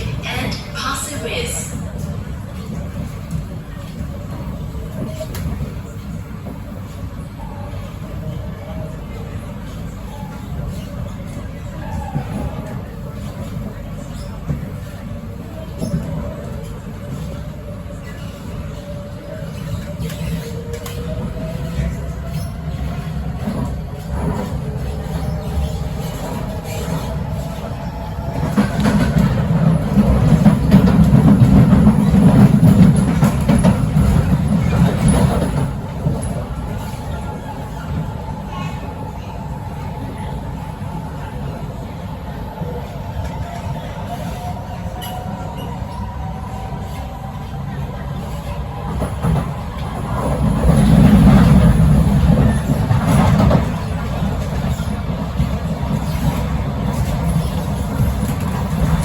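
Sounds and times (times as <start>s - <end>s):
metro train rumbling: 0.0s - 59.0s
wheels rattling and clicking on track: 8.2s - 39.1s, 42.5s - 59.0s.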